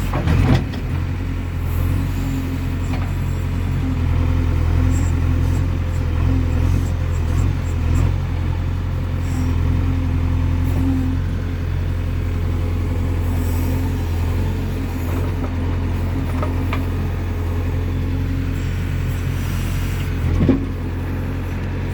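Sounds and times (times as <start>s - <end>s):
heavy machinery diesel engine: 0.0s - 21.9s.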